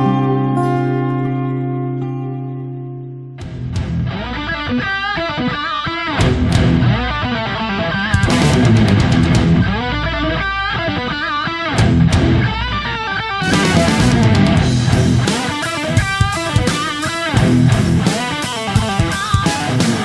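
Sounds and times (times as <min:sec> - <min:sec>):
rock music with lead guitar: 0:00.0 - 0:20.0.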